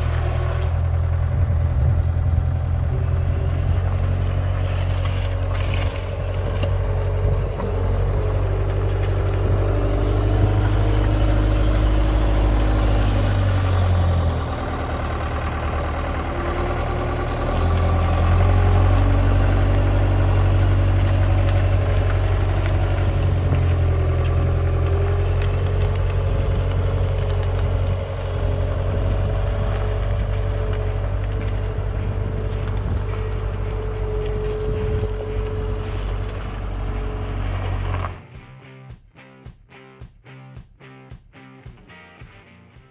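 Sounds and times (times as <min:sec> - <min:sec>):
diesel engine running: 0:00.0 - 0:38.3.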